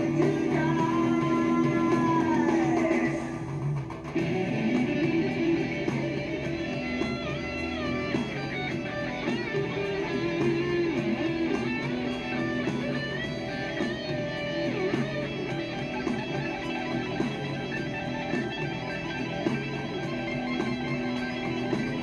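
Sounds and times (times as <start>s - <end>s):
rock music with electric guitars: 0.0s - 22.0s.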